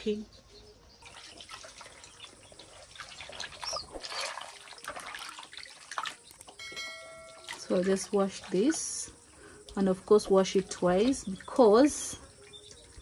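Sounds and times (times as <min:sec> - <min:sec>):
water sloshing and splashing in basin: 0:01.0 - 0:13.0.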